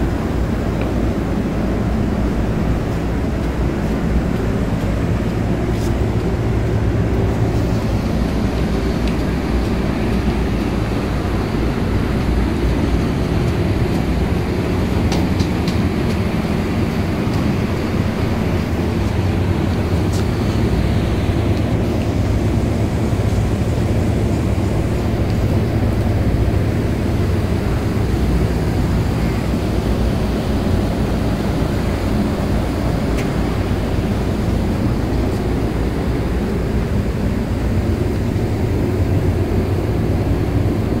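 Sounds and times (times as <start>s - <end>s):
steady low rumbling: 0.0s - 41.0s.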